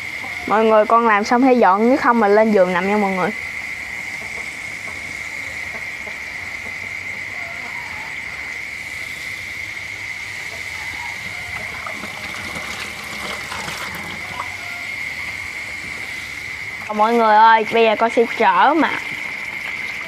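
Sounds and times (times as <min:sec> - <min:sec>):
crickets chirping: 0:00.0 - 0:20.0
food deep-frying in oil: 0:00.0 - 0:20.0.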